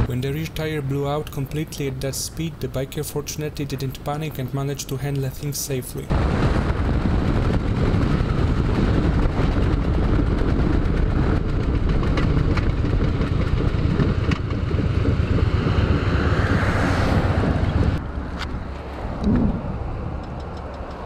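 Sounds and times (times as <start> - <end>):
motorcycle engine and road rumble: 0.0 - 4.9, 6.1 - 21.0
heavy wind rush: 0.0 - 21.0.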